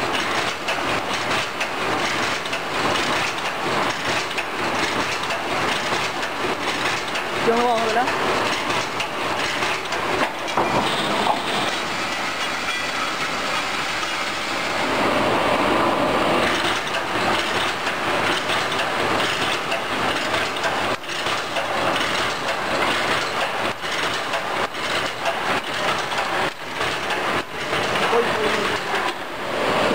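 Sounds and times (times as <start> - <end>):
welding machine metallic clatter: 0.0 - 14.9, 16.4 - 29.3.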